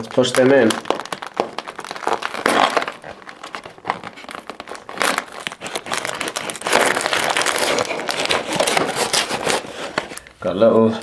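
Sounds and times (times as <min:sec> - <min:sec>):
cardboard crinkling and crackling: 0:00.0 - 0:10.4.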